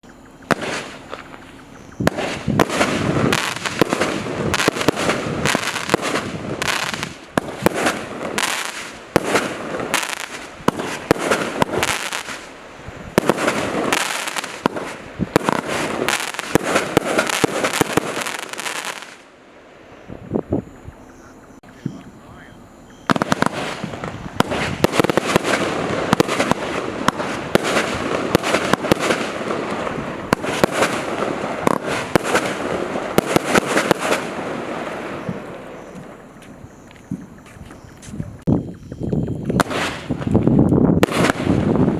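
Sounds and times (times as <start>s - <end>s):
fireworks shots and aerial bursts: 0.0s - 41.9s.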